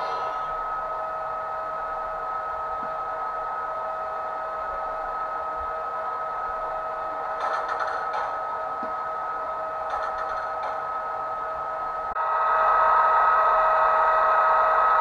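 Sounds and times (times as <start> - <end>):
hum of noise: 0.0 - 15.0
steady two-tone electric whine: 0.0 - 15.0.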